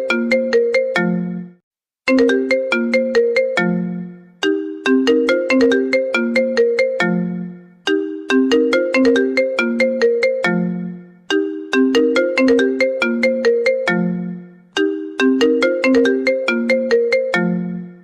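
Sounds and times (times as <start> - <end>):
mobile phone ringtone melody: 0.0 - 18.0.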